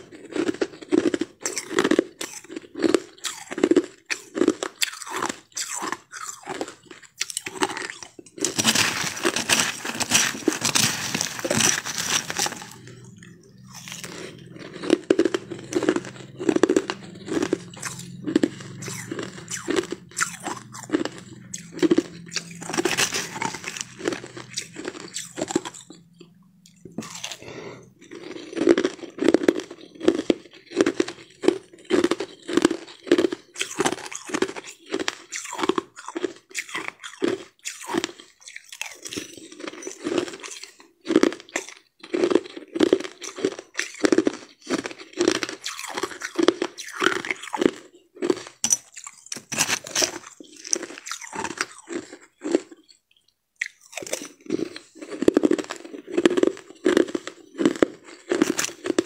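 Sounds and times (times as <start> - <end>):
person crunching ice: 0.1 - 52.9, 53.6 - 59.0.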